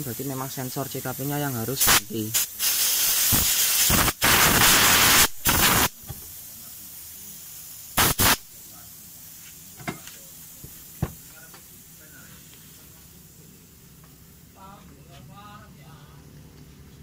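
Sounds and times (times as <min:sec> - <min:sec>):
compressed air hissing: 0:00.0 - 0:14.6.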